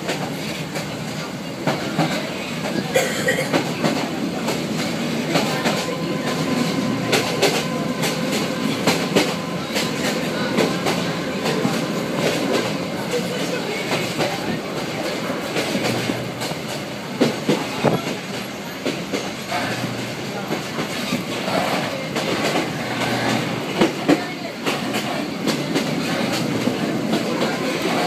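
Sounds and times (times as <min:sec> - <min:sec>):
train coach rumbling: 0:00.0 - 0:28.0.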